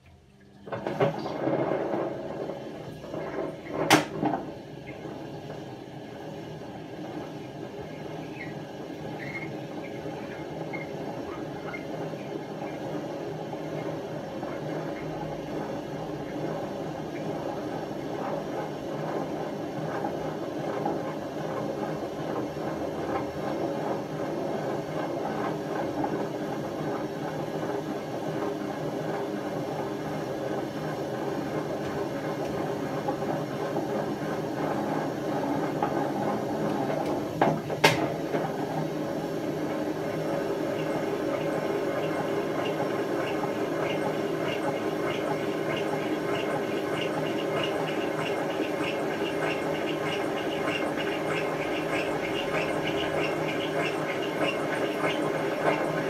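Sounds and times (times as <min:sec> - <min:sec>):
washing machine rough rumbling: 0:00.0 - 0:56.0.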